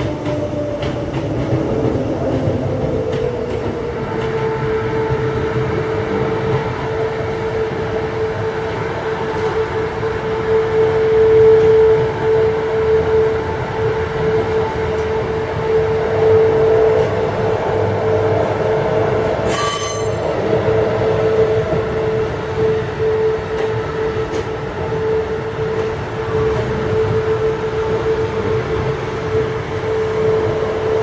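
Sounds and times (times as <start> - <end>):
electric train running past: 0.0 - 31.0.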